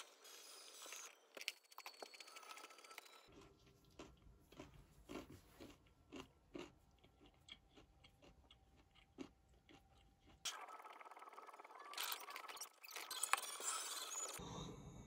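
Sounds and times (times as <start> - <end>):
crunchy chewing: 1.3 - 14.2.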